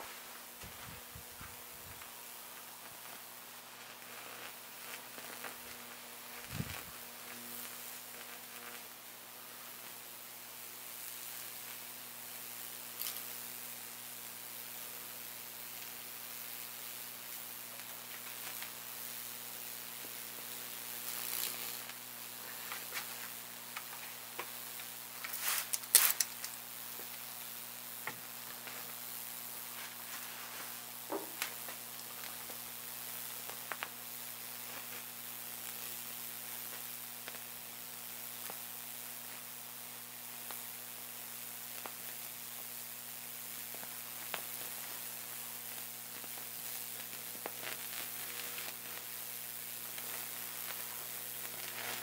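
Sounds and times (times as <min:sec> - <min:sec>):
electrical discharge sizzling hiss: 0:00.0 - 0:52.0
low electrical hum: 0:00.0 - 0:52.0
sharp crackles and pops: 0:00.0 - 0:52.0.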